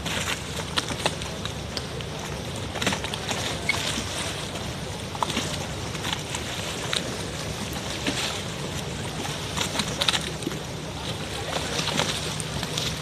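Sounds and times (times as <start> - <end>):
steady low hum: 0.0 - 13.0
water lapping against boats: 0.0 - 13.0
water splashes: 0.0 - 13.0.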